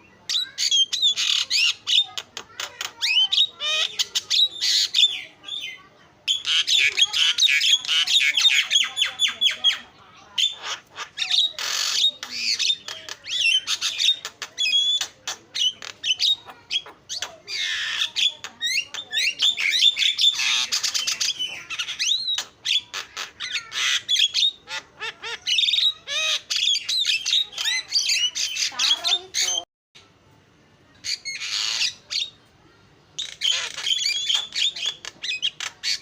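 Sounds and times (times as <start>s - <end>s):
myna singing squawks and whistles: 0.0s - 29.6s, 33.2s - 36.0s.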